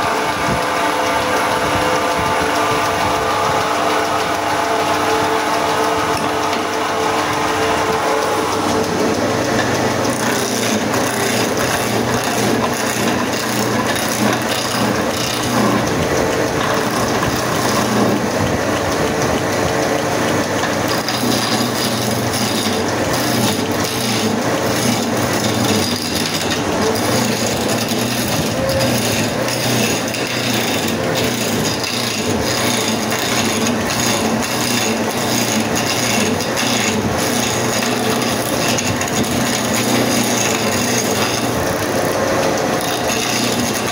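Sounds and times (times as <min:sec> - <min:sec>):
chisel scraping spinning wood: 0:00.0 - 0:43.9
lathe hum: 0:00.0 - 0:43.9.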